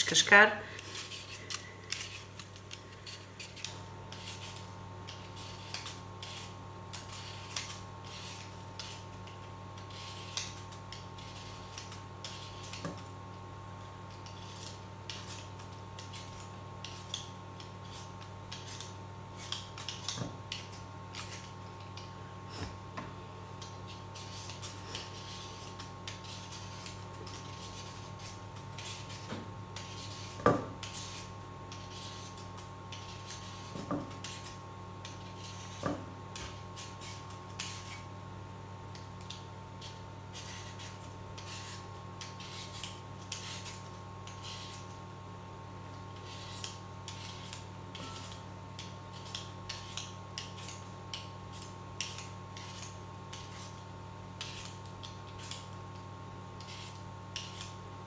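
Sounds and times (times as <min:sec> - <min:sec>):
peeler scraping potatoes: 0:00.0 - 0:38.2, 0:38.9 - 0:45.0, 0:46.0 - 0:58.0.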